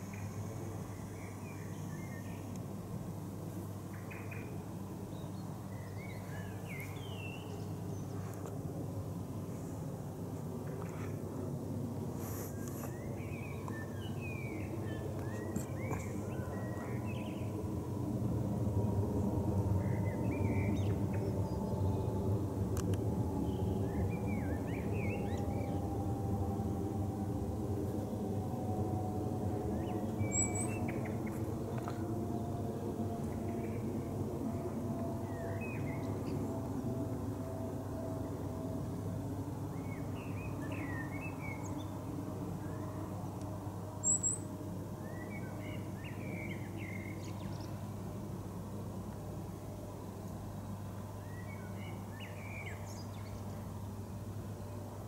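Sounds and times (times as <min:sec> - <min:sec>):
airplane flying overhead: 0:00.0 - 0:55.0.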